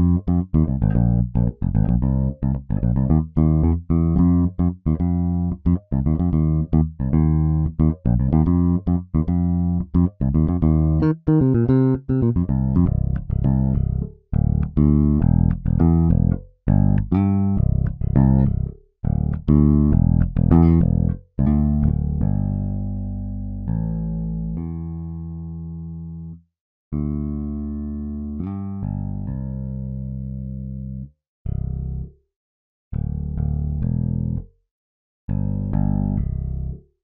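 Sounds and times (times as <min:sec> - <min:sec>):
electric bass plucked notes: 0:00.0 - 0:32.2, 0:33.0 - 0:34.5, 0:35.3 - 0:36.9.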